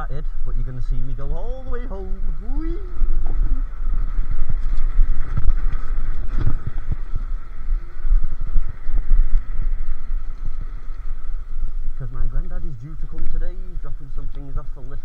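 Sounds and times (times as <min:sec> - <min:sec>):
electric scooter motor whine: 0:00.0 - 0:15.0
wind buffeting on microphone: 0:00.0 - 0:15.0.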